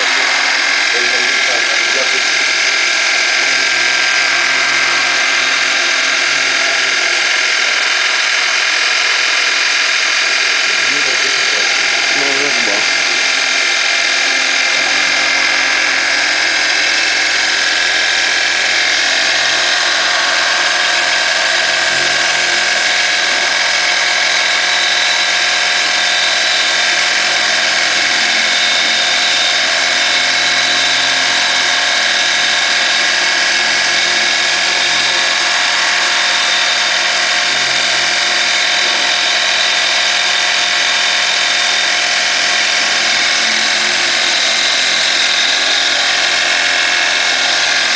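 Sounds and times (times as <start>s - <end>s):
milling machine whine: 0.0s - 47.9s.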